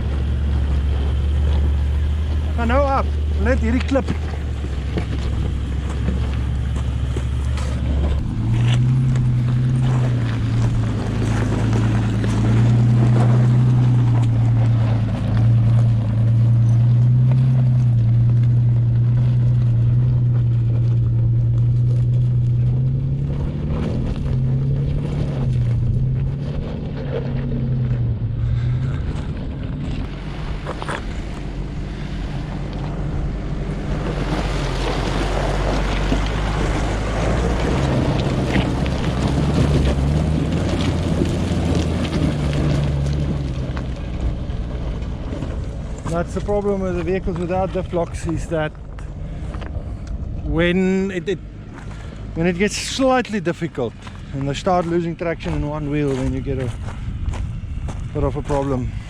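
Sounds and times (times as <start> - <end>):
off-road vehicle engine crawling: 0.0 - 59.0.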